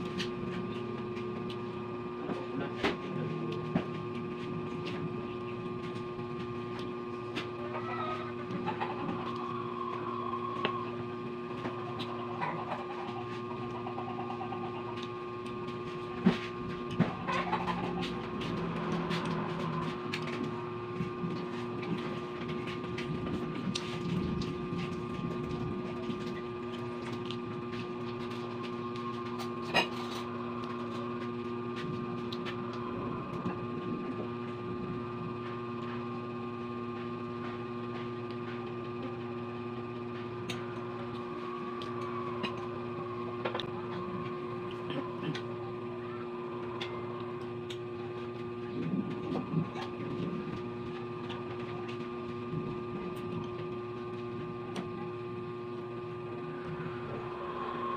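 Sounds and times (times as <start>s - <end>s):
background hum: 0.0s - 57.9s.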